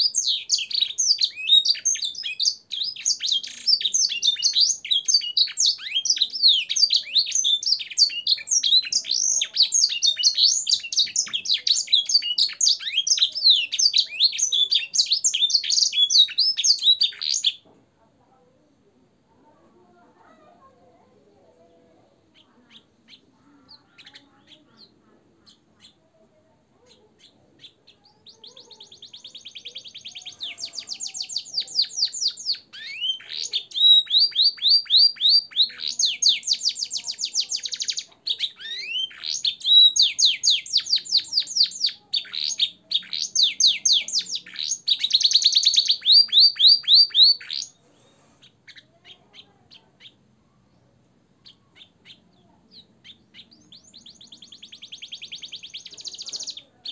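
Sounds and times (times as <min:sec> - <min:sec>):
canary singing trills: 0:00.0 - 0:17.7, 0:20.2 - 0:56.9
soft bird chirps: 0:00.0 - 0:17.7, 0:21.0 - 0:56.9.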